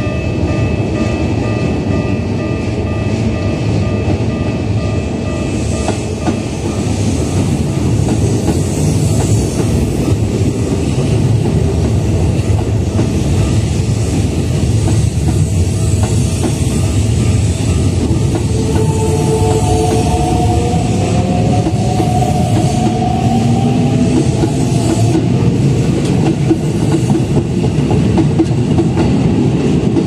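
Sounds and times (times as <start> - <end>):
level-crossing warning bell: 0.0 - 11.1, 12.2 - 25.6
train rumble: 0.0 - 30.0.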